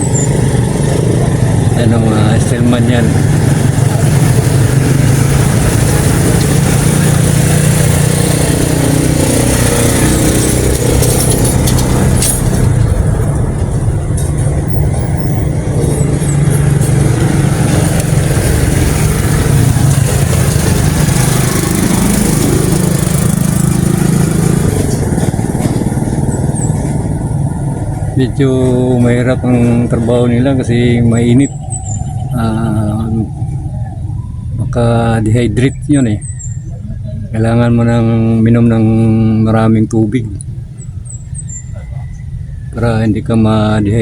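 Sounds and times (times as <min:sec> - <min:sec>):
vehicle engines passing: 0:00.0 - 0:44.0.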